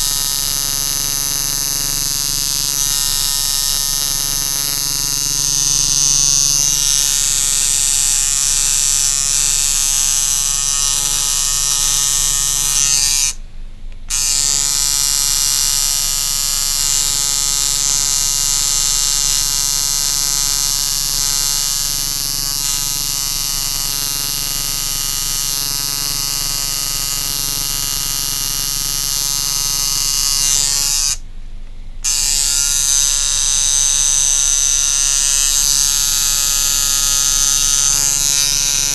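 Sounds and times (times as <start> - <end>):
tattoo machine buzzing: 0.0 - 13.4, 14.0 - 31.2, 32.0 - 38.9.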